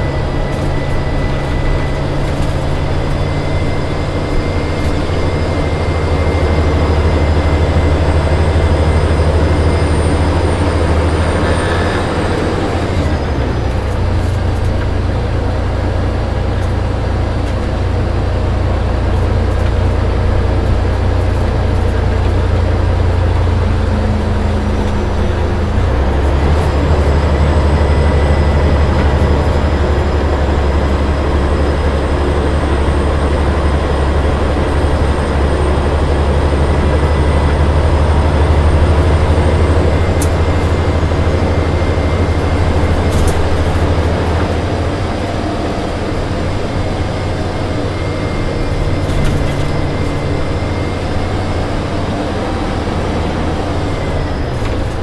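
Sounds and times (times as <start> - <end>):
diesel coach engine drone: 0.0 - 55.0.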